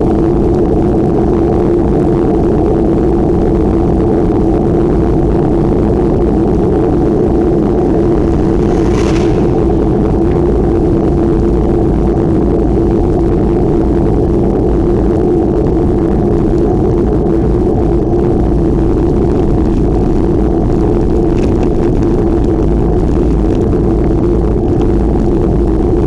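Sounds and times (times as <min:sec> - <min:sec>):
steady hum: 0:00.0 - 0:26.0
wind rushing over microphone: 0:00.0 - 0:26.0.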